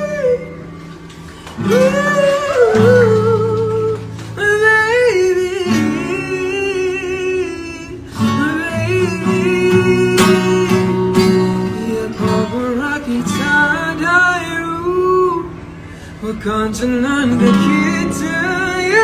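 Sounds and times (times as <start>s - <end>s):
man singing: 0.0s - 0.6s, 1.6s - 15.5s, 16.2s - 19.0s
acoustic guitar chords: 0.0s - 19.0s.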